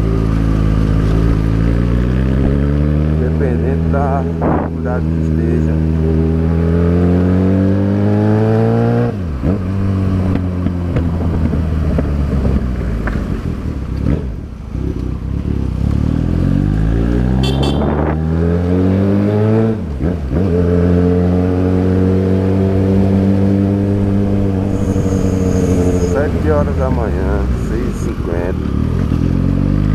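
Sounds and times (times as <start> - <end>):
motorcycle engine changing gears: 5.8 - 29.9.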